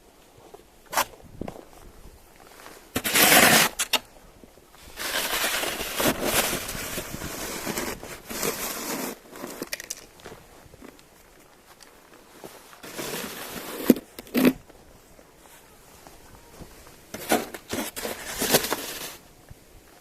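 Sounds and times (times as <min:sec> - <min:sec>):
rustling crinkling: 0:00.4 - 0:20.0.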